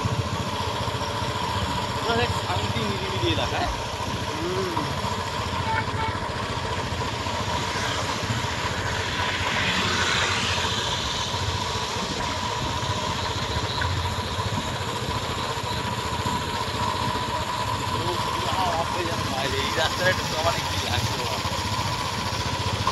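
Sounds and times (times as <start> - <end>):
road and wind noise: 0.0 - 22.9
thin steady tone: 0.0 - 22.9
vehicle engine running: 0.0 - 22.9.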